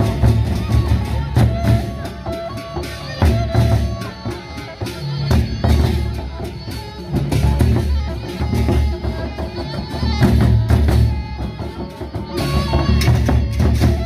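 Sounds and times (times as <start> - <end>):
barrel drums beaten with sticks: 0.0 - 14.0.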